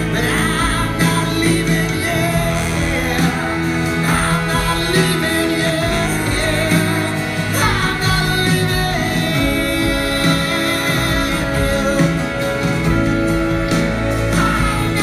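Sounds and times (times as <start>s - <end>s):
person singing: 0.0s - 15.0s
rock band playing: 0.0s - 15.0s.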